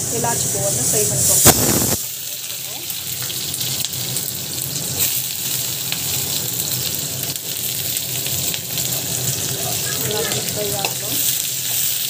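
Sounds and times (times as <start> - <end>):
onion and spices sizzling in oil: 0.0 - 12.0.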